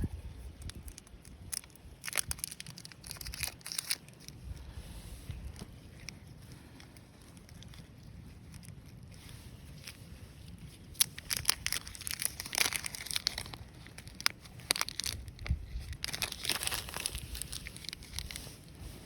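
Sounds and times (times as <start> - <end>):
crinkling and crunching with snaps: 0.0 - 19.0.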